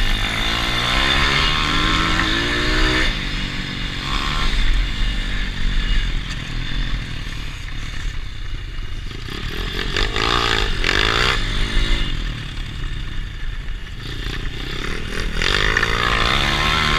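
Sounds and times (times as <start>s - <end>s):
motorbike engine revving: 0.0s - 16.9s.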